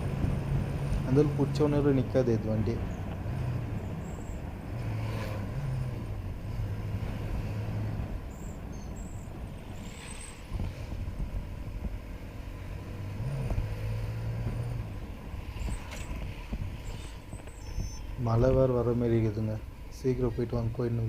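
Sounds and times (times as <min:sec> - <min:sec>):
wind and road noise: 0:00.0 - 0:21.0.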